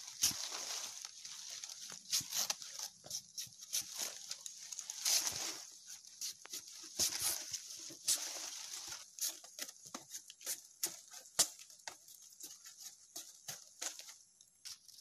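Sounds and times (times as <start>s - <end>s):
leaves rustling: 0.0s - 15.0s.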